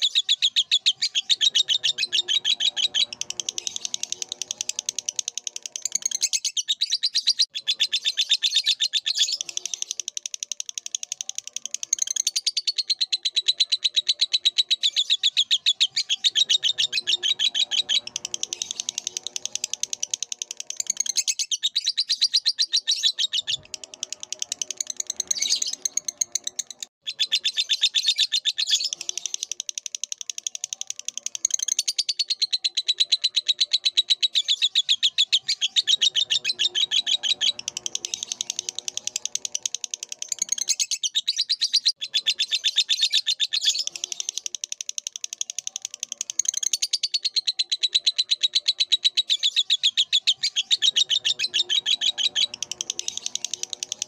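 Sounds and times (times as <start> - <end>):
lovebird chattering trill: 0.0 - 54.0.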